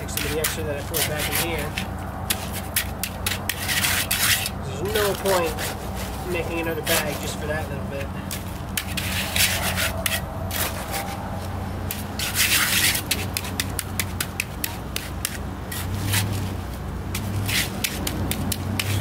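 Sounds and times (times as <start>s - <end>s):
trowel scraping wet concrete: 0.0s - 19.0s.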